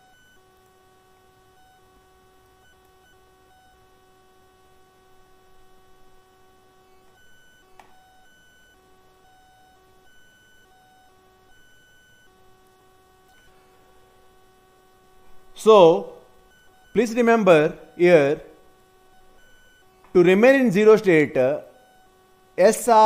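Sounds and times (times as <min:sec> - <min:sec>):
faint electrical whine: 0:00.0 - 0:23.0.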